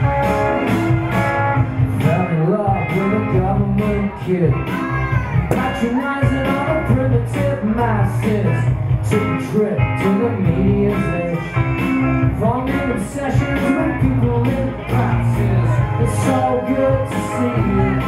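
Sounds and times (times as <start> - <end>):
electric guitar: 0.0 - 18.0
steady beat: 0.0 - 18.0
man singing: 1.9 - 18.0.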